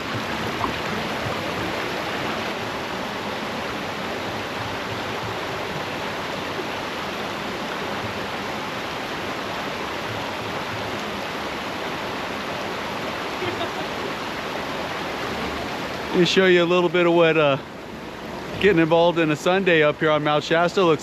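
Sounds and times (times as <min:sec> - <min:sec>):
flowing spring water: 0:00.0 - 0:21.0.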